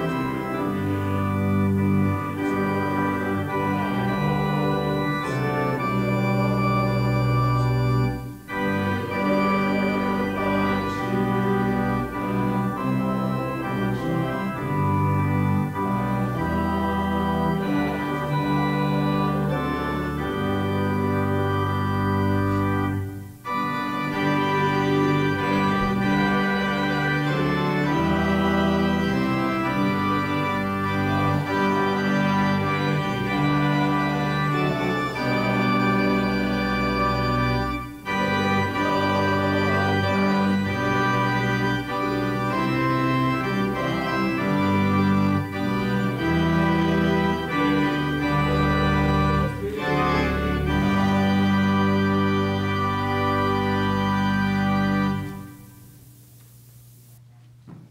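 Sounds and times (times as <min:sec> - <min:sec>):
organ playing hymn chords: 0:00.0 - 0:57.2.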